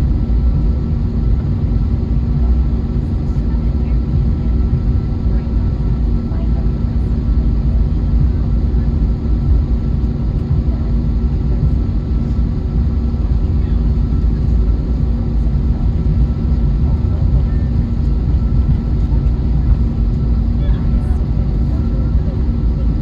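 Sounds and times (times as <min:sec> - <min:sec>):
constant engine hums: 0:00.0 - 0:23.0
jet engines low rumble: 0:00.0 - 0:23.0.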